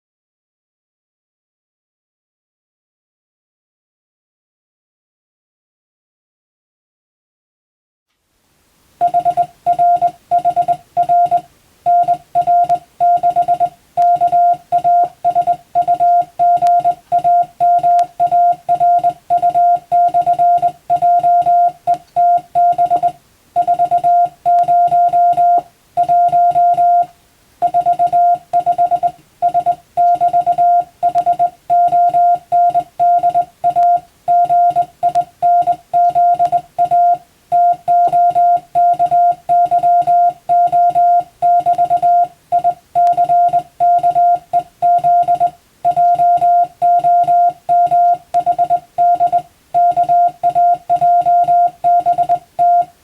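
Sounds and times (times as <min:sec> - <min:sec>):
morse code tone: 0:09.0 - 0:53.0.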